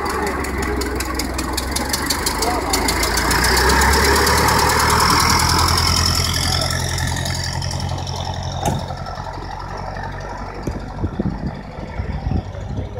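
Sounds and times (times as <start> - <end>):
car engine driving off: 0.0 - 12.9.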